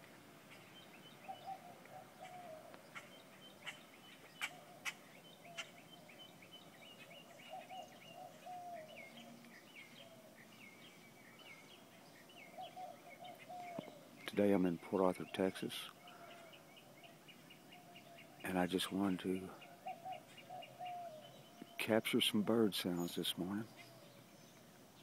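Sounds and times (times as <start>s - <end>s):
small birds chirping: 0.0s - 25.0s
doves cooing: 0.5s - 24.4s.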